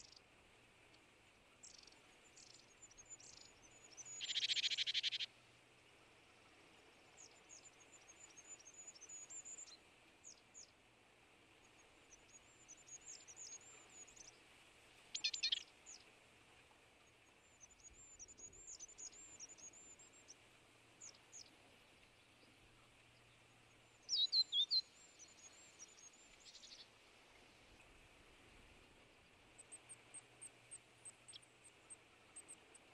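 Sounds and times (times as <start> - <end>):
faint steady hiss: 0.0 - 32.9
songbirds chirping: 0.0 - 32.9.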